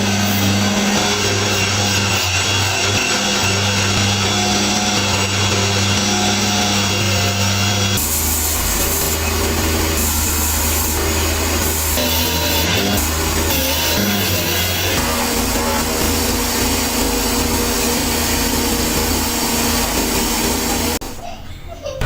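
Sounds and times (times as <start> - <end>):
power tool motor hum: 0.0 - 21.0
grinding hiss: 0.0 - 21.1.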